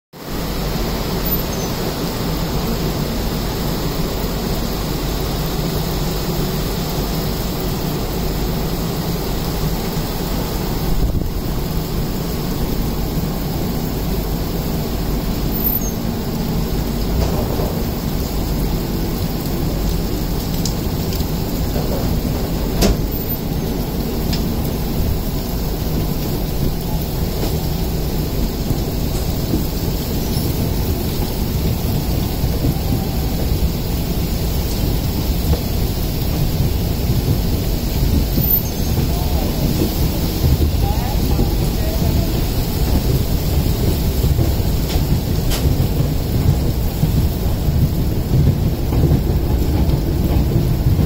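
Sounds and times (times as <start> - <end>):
heavy rain falling: 0.2 - 51.0.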